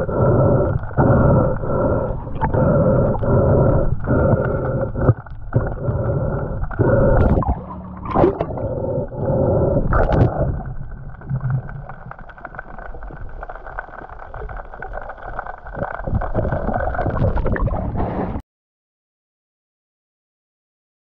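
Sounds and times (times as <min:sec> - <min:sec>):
muffled underwater water movement: 0:00.0 - 0:18.4.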